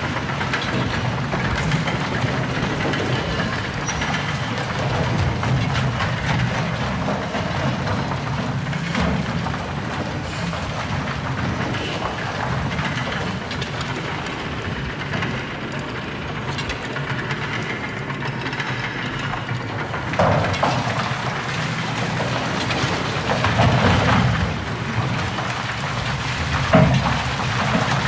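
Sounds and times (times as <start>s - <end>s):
roller coaster cars rattling: 0.0s - 28.0s.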